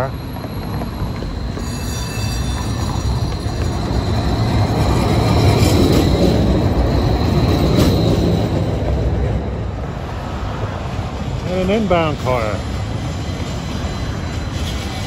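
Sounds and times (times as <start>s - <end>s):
streetcar rolling on rails: 0.0s - 15.0s.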